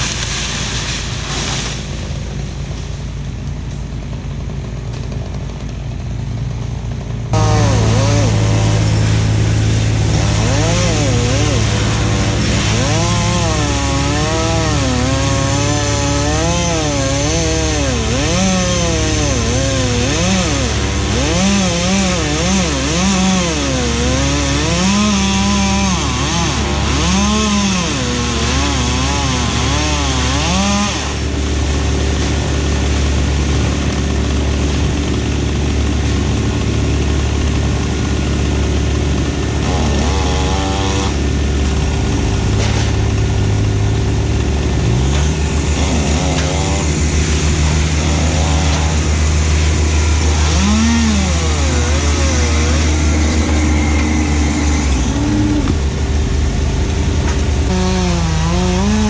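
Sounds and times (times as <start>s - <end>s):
low engine drone: 0.0s - 59.0s
chainsaw cutting wood: 3.5s - 59.0s.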